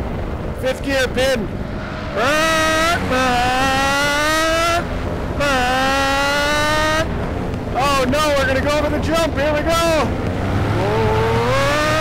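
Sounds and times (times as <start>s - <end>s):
two-stroke engine revving: 2.0s - 12.0s.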